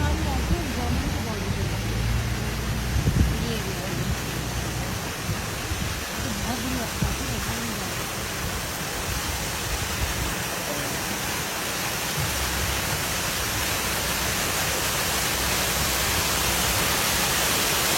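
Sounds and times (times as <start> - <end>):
water rushing into a lake: 0.0 - 17.9.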